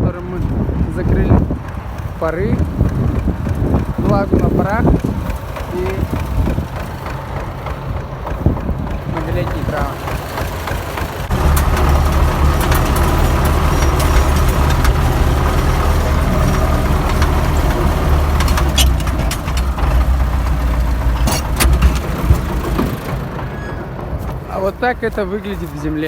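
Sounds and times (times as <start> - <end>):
tractor engine running: 0.0 - 26.0
sharp clicks and knocks: 1.6 - 25.0.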